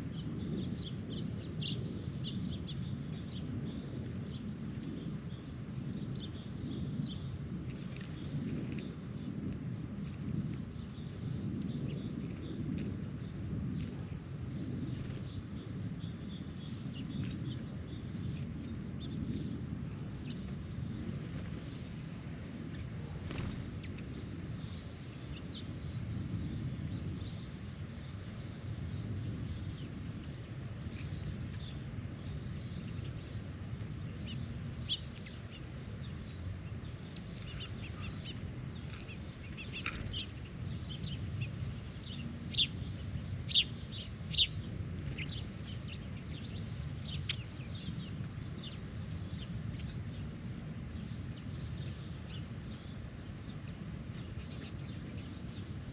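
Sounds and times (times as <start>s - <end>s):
birds chirping: 0.0s - 50.3s.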